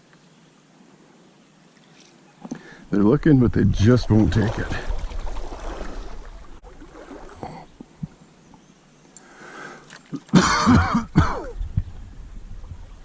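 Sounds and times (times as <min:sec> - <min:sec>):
stream water running: 0:01.4 - 0:13.0.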